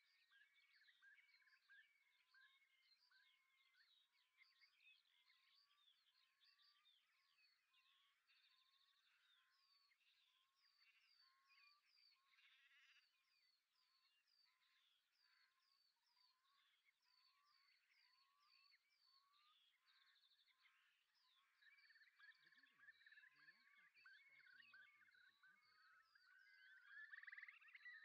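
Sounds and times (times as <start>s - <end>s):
songbird chorus: 0.0s - 28.0s.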